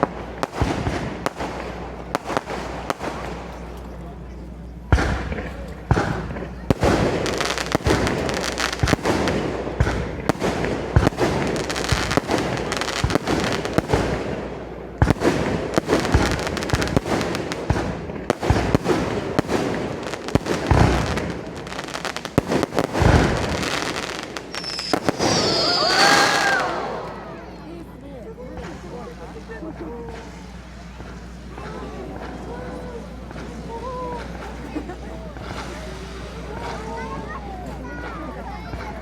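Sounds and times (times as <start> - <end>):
fireworks booms: 0.0 - 27.8, 28.4 - 39.0
fireworks crackling and popping: 0.0 - 39.0.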